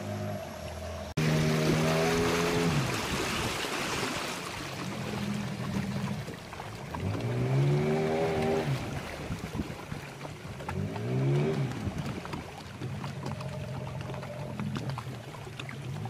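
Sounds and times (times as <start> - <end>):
outboard motor running: 0.0 - 16.0
river water rushing along hull: 0.0 - 16.0.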